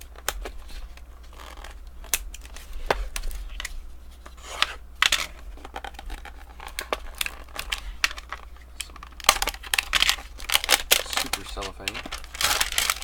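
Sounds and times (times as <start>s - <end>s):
cellophane wrapper crinkling and tearing: 0.0s - 3.7s, 4.6s - 13.0s.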